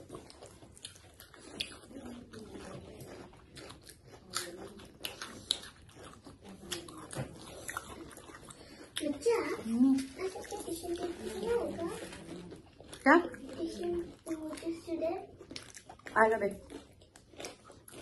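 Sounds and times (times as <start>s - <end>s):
chewing noodles: 0.0s - 18.0s.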